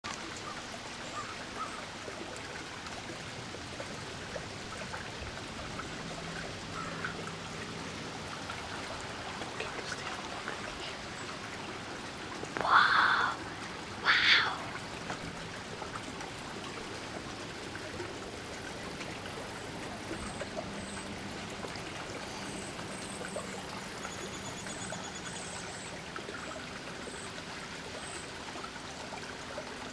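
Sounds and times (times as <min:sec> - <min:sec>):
outdoor background hiss: 0:00.0 - 0:29.9.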